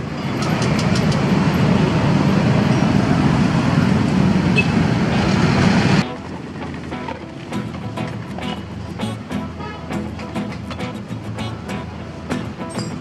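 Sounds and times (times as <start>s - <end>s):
roadside traffic rumble: 0.0s - 13.0s.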